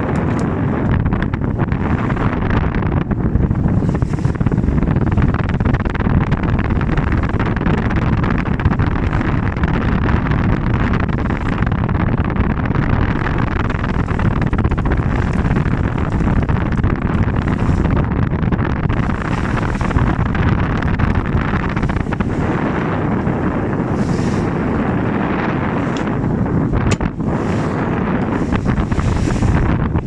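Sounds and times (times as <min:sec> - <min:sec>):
boat motor running: 0:00.0 - 0:30.0
wind rumbling on microphone: 0:00.0 - 0:30.0.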